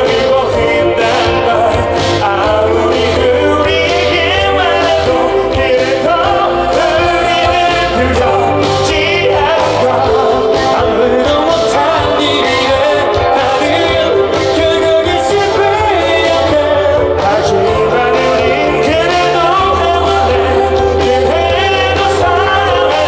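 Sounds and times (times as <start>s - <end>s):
backing band with bass line: 0.0s - 23.0s
men singing pop song: 0.0s - 23.0s.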